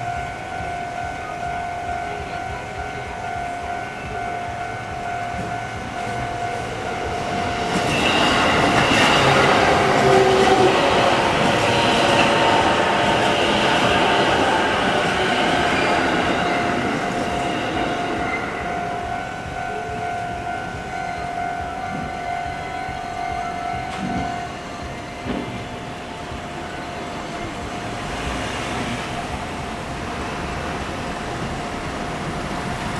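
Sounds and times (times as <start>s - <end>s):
steady high tone: 0.0s - 32.8s
commuter train passing: 0.0s - 32.9s.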